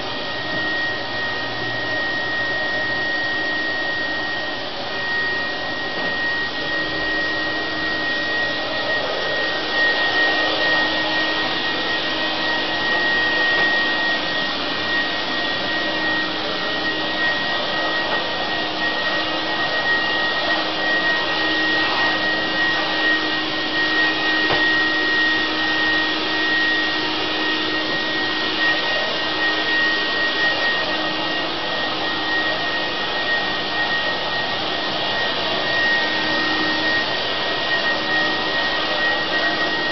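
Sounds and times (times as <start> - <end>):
fan blower rushing with whine: 0.0 - 39.9.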